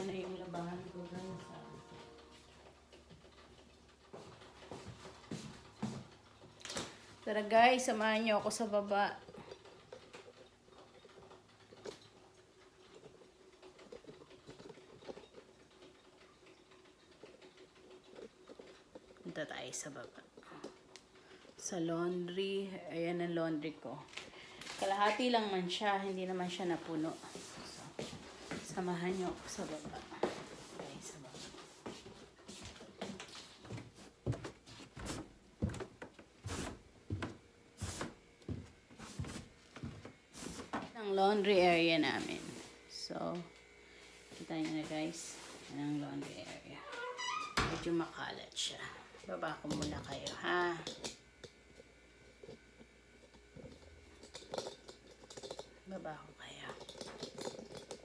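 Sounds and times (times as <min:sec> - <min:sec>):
footsteps going downstairs: 0:00.0 - 0:50.5
faint steady hum: 0:00.0 - 0:58.0.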